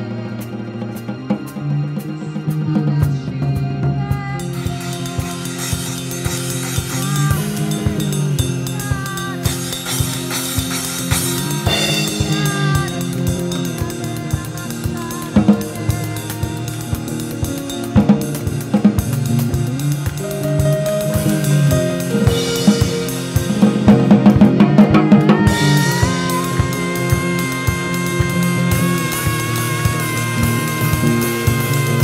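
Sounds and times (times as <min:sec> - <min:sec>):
drum kit beat: 0:00.0 - 0:32.0
live band music: 0:00.0 - 0:32.0.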